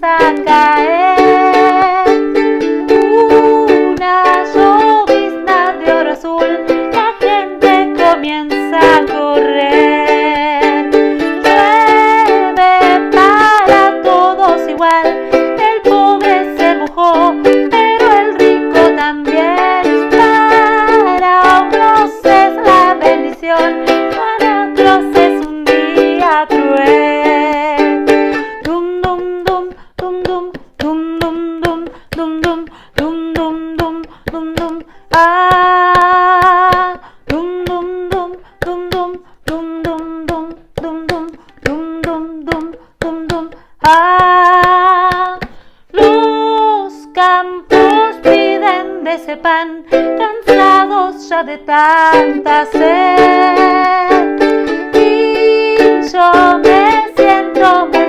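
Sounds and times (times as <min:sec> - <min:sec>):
strummed string instrument: 0:00.0 - 0:58.0
woman singing children's song: 0:00.0 - 0:58.0.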